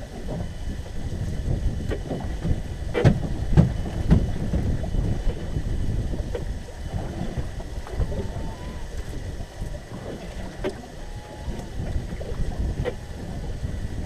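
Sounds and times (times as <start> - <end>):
waves slapping boat hull: 0.0 - 14.0
wind buffeting microphone: 0.0 - 14.0.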